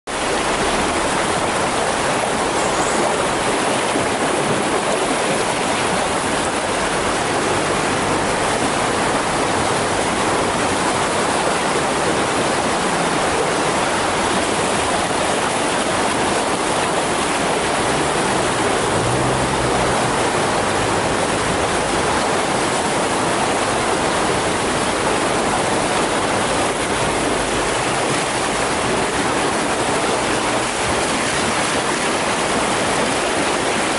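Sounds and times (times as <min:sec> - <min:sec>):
seawater rushing through inlet: 0:00.0 - 0:33.9.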